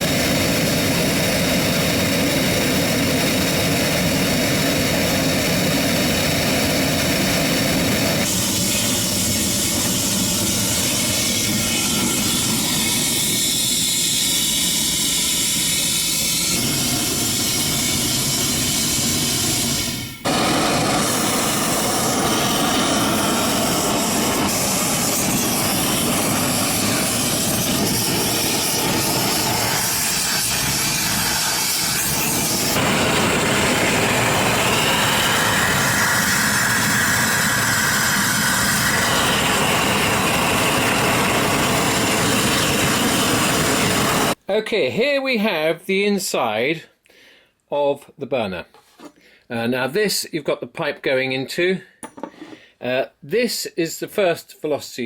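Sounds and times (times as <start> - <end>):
gas burner flame rushing: 0.0 - 44.4.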